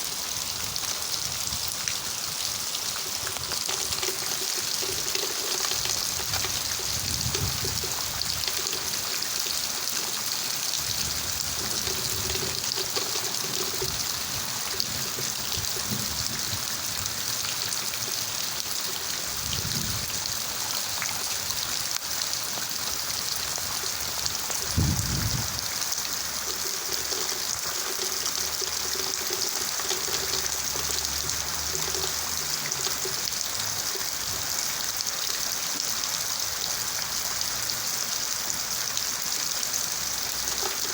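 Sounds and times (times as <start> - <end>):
running water trickling: 0.0 - 40.9
steady rain: 0.0 - 40.9.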